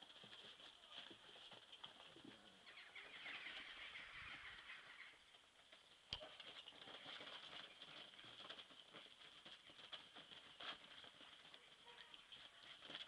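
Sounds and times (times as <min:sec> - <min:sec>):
soft rustling: 0:00.0 - 0:13.0.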